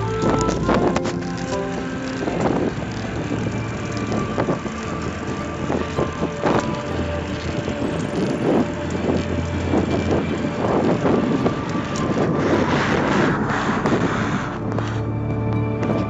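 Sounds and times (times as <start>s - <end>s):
car passing close: 0.0s - 16.0s
road noise from rolling trike: 0.0s - 16.0s
wind buffeting microphone: 0.0s - 16.0s.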